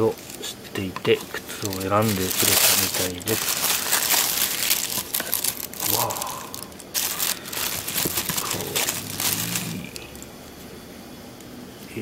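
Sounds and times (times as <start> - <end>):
tissue paper crinkling: 0.0 - 10.2.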